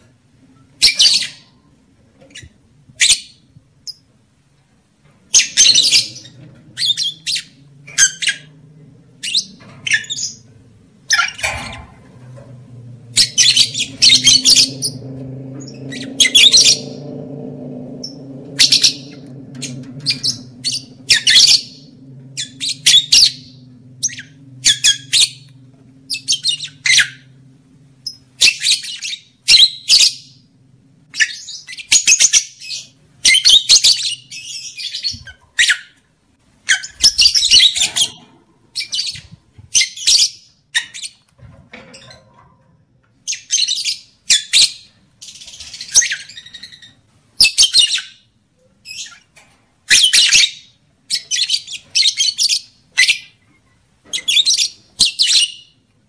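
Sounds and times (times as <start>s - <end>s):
lovebirds chirping and squawking: 0.5s - 4.1s, 5.0s - 30.5s, 31.1s - 55.9s.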